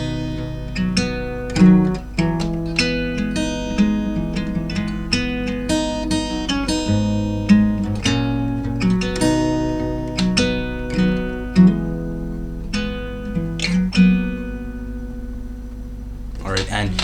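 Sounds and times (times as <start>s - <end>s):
acoustic guitar fingerstyle: 0.0s - 17.0s.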